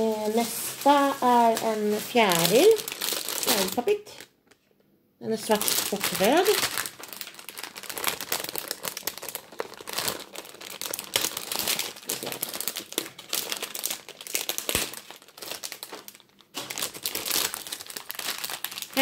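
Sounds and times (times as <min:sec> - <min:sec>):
plastic bag crinkling and tearing: 0:00.0 - 0:04.3, 0:05.4 - 0:19.0.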